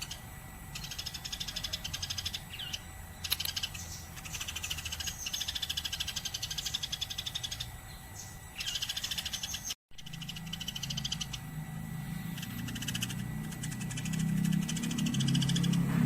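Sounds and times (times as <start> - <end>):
sparrow chattering chirps: 0.0 - 16.0.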